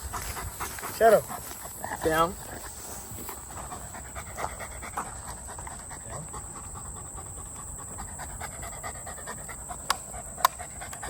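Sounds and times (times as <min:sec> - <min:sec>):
large dog panting: 0:00.0 - 0:11.0.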